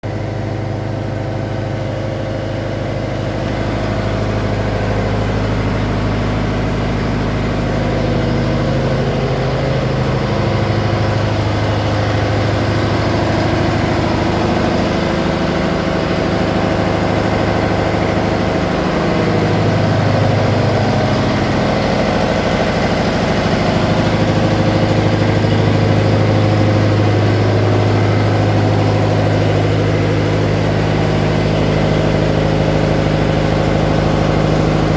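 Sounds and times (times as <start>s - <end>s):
engine room machinery drone: 0.0s - 34.9s.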